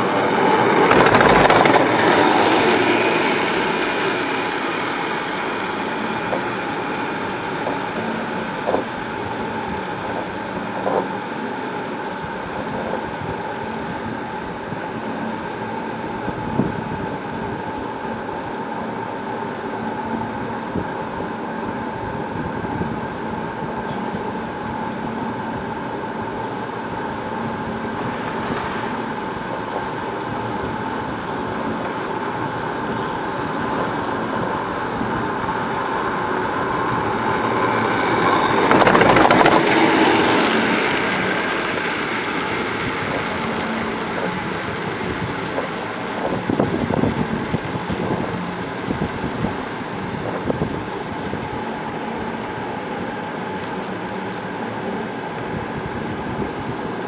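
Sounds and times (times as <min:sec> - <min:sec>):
chairlift haul rope humming: 0:00.0 - 0:57.0.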